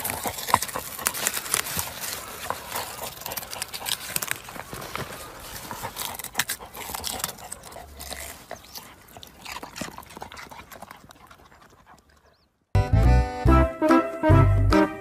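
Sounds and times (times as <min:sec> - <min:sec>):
dog gnawing root vegetable: 0:00.0 - 0:12.5.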